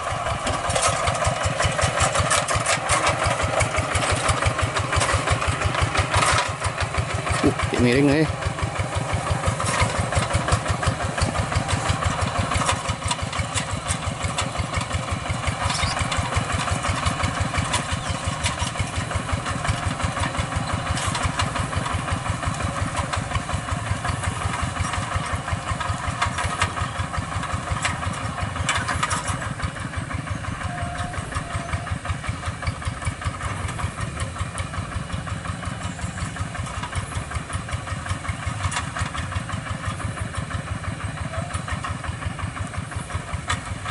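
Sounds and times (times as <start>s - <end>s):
diesel engine chugging: 0.0s - 43.9s
metallic rattle: 0.3s - 43.9s.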